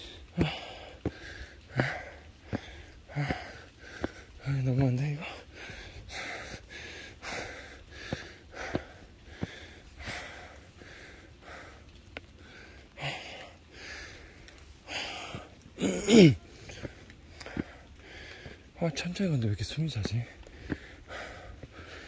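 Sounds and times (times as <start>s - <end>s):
man breathing hard: 0.0s - 4.4s, 5.2s - 18.8s, 20.3s - 22.0s.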